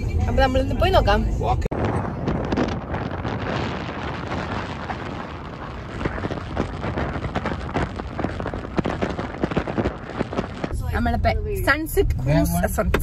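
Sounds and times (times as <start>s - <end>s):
wind buffeting thumps: 0.4s - 13.0s
wind rushing over microphone: 0.8s - 11.6s.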